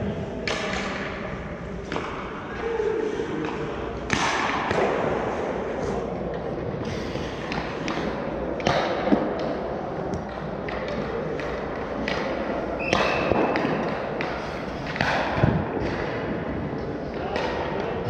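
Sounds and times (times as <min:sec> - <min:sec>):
echoing rink noise: 0:00.0 - 0:18.0
hockey sticks and puck knocking: 0:00.4 - 0:02.3, 0:03.4 - 0:18.0.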